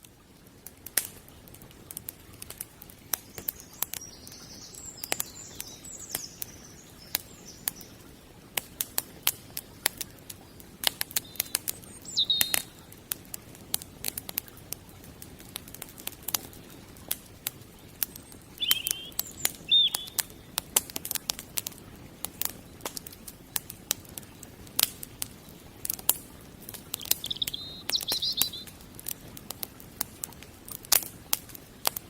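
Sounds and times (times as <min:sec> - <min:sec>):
sharp snaps and pops: 0:00.0 - 0:32.0
wood fire crackling: 0:00.0 - 0:32.0.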